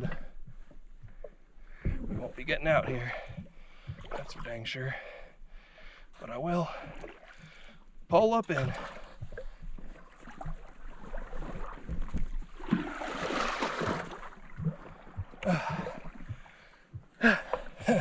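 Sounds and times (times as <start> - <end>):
water splashing: 1.0 - 5.2, 6.3 - 18.0.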